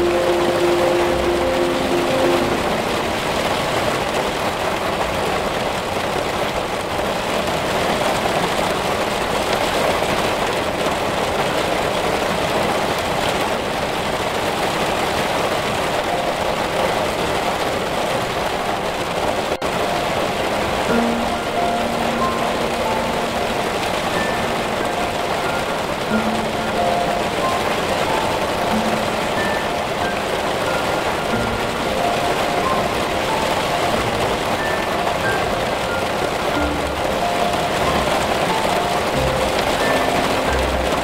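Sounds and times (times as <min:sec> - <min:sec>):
heavy rain on leaves: 0:00.0 - 0:41.0.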